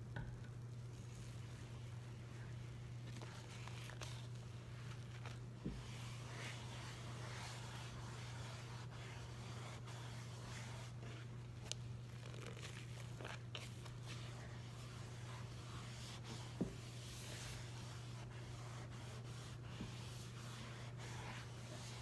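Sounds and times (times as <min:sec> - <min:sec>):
steady low hum: 0:00.0 - 0:22.0
sponge squishing and crackling: 0:00.9 - 0:22.0.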